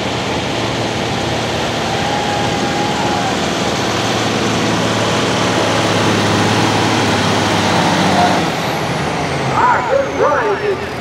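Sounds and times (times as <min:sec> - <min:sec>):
diesel engine under heavy load: 0:00.0 - 0:11.0.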